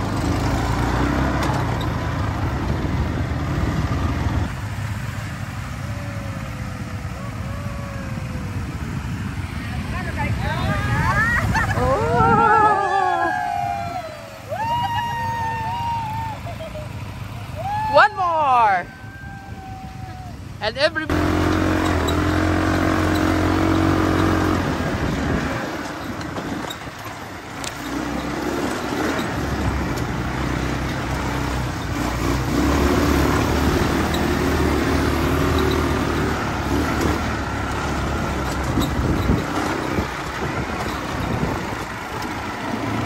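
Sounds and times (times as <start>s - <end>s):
quad bike engine running: 0.0s - 43.0s.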